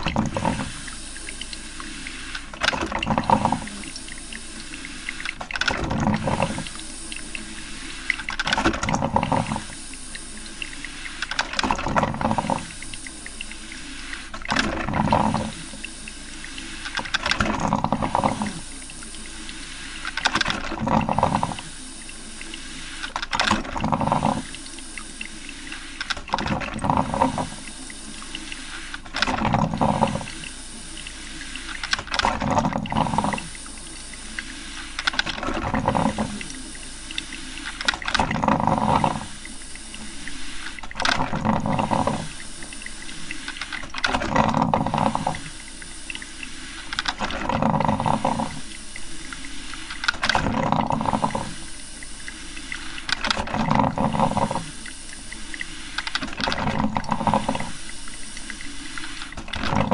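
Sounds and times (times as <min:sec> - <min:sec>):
steady hiss: 0:00.0 - 0:02.6, 0:03.3 - 0:05.4, 0:06.0 - 0:08.5, 0:09.2 - 0:14.5, 0:15.2 - 0:17.2, 0:18.0 - 0:20.4, 0:21.1 - 0:23.2, 0:24.0 - 0:26.2, 0:27.0 - 0:29.2, 0:29.8 - 0:32.2, 0:33.0 - 0:41.1, 0:41.7 - 0:43.9, 0:44.7 - 0:47.1, 0:47.9 - 0:50.2, 0:50.9 - 0:53.2, 0:54.0 - 0:56.2, 0:57.1 - 0:59.9
coffee maker gurgling: 0:00.0 - 0:59.9.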